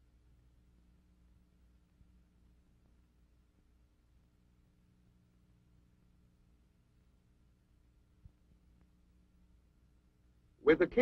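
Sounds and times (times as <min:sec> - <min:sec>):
faint low hum with hiss: 0:00.0 - 0:11.0.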